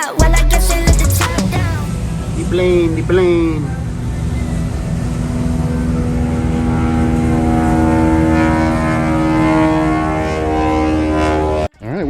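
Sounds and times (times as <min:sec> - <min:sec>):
boat engine drone: 0:00.2 - 0:11.7
wind and water rumble: 0:01.2 - 0:11.7.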